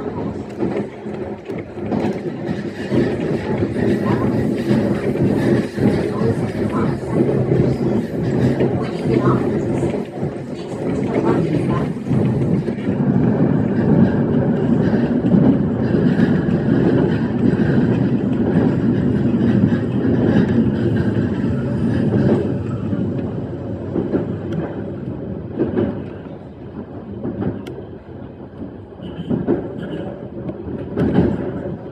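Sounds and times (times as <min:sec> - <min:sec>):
electric train rumbling on track: 0:00.0 - 0:31.9.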